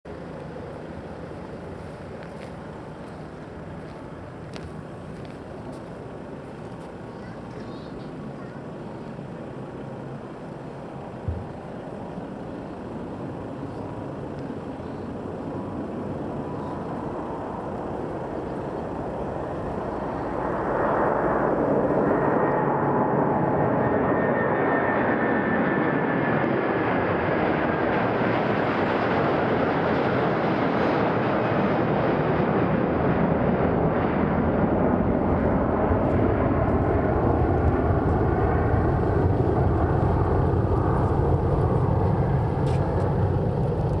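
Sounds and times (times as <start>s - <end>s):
faint high engine whine: 0.1s - 44.0s
jet engines at takeoff: 0.1s - 44.0s.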